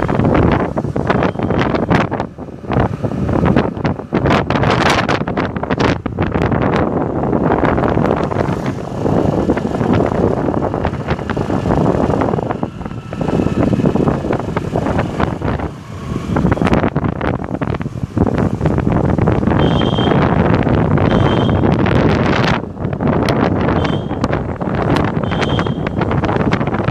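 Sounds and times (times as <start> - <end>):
motorbike engine running: 0.0 - 26.9
road noise: 0.0 - 26.9
wind buffeting microphone: 0.0 - 26.9.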